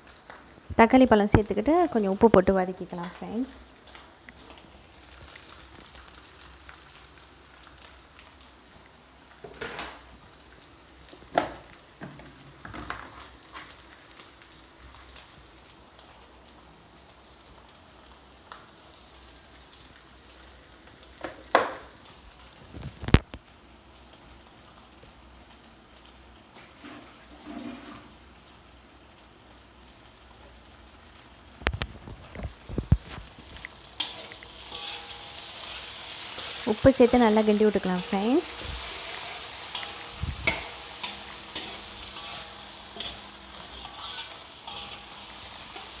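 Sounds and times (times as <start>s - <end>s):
food sizzling in a wok: 0.0s - 46.0s.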